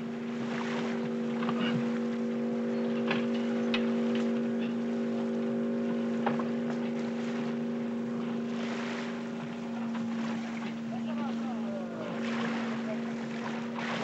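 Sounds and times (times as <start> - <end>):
boat engine droning: 0.0 - 14.0
water noise: 0.0 - 14.0
wind: 0.0 - 14.0.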